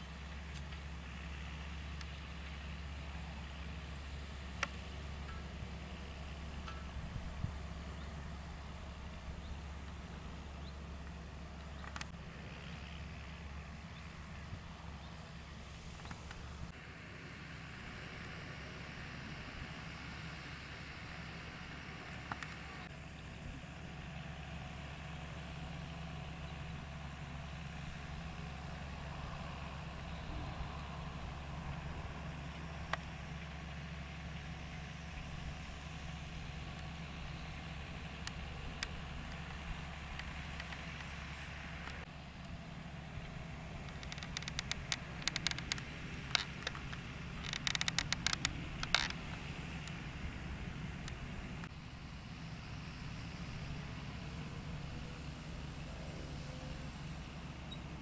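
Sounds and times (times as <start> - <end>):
tractor diesel engine droning: 0.0 - 58.0.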